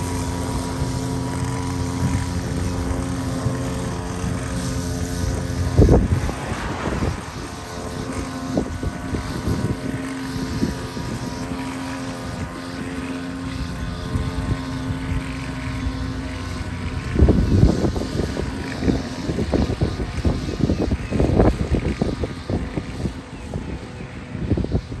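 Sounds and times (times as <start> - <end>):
small gas engine droning: 0.0 - 25.0
wind rumbling on microphone: 0.0 - 25.0.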